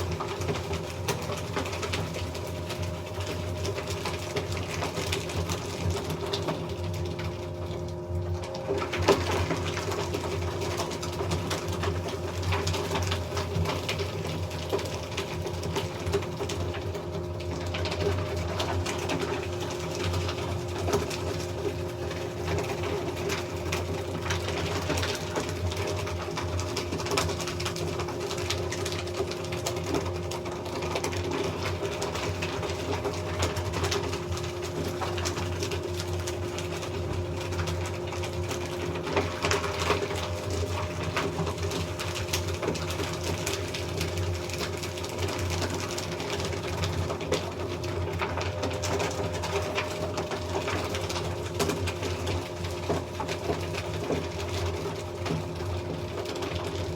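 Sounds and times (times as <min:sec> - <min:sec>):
paper shredder motor humming: 0:00.0 - 0:56.9.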